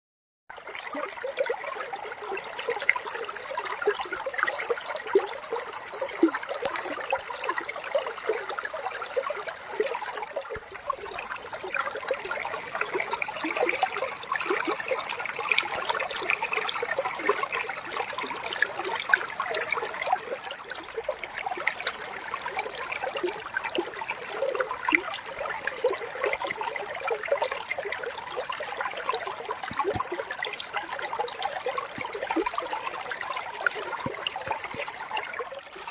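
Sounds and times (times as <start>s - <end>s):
water trickling: 0.5s - 35.9s.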